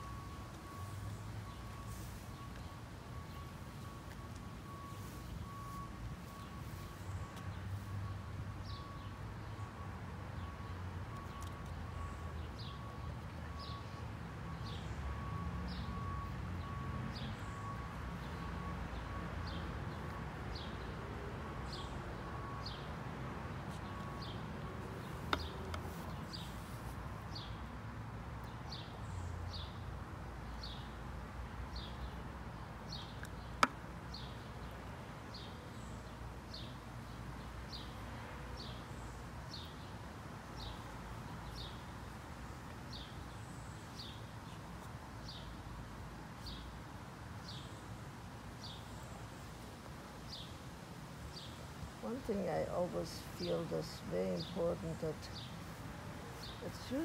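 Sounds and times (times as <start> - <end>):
low outdoor background hum: 0.0 - 57.0.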